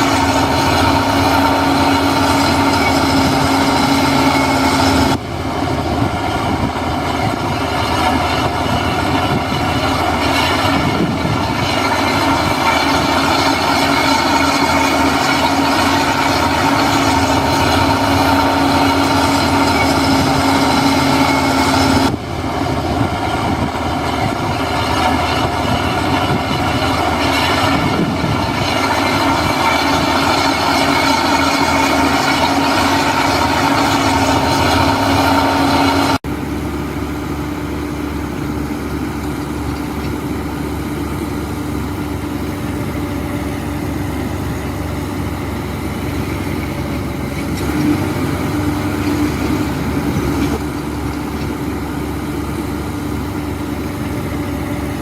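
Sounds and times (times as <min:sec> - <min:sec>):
heavy diesel machinery running: 0:00.0 - 0:55.0
machinery whine: 0:00.0 - 0:55.0.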